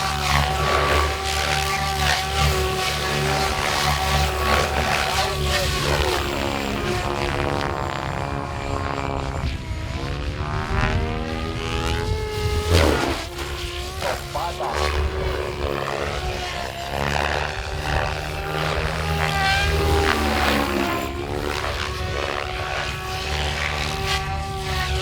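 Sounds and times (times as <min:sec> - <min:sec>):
model helicopter rotor whine: 0:00.0 - 0:25.0.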